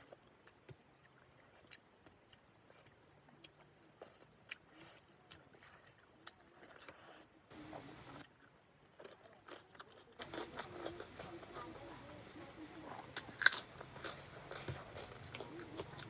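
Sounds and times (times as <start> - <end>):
person chewing food: 0.0 - 11.9, 13.0 - 16.0.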